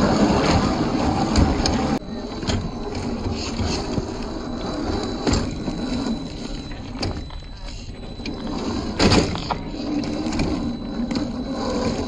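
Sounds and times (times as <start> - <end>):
rc car motor and drivetrain: 0.0 - 12.0.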